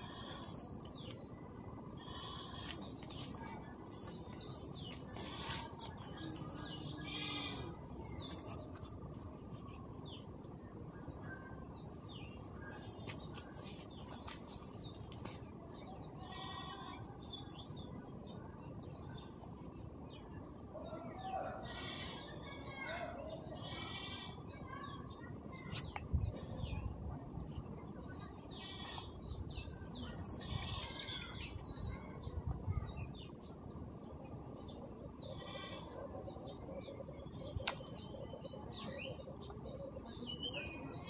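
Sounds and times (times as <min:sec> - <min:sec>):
small birds chirping: 0:00.0 - 0:20.4, 0:21.6 - 0:41.0
low outdoor background: 0:00.0 - 0:41.0.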